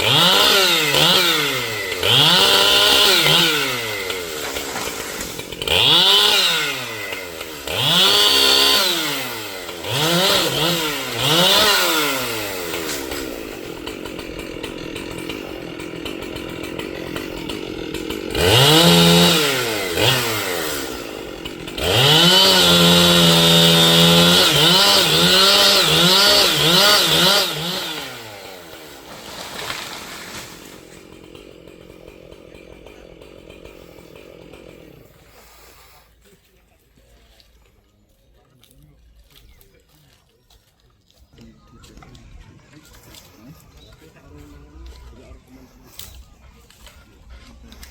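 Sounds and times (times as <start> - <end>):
chainsaw revving and idling: 0.0 - 40.6, 41.2 - 47.9.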